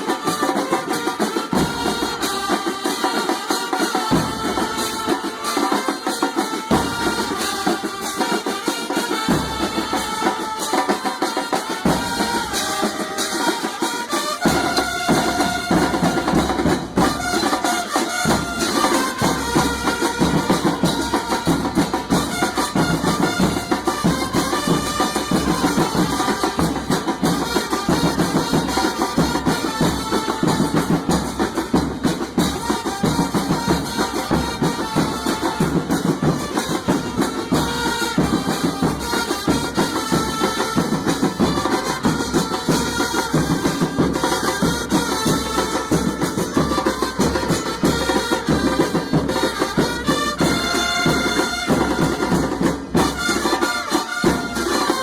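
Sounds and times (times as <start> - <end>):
drums and percussion: 0.0 - 55.0
wind instruments: 0.0 - 55.0.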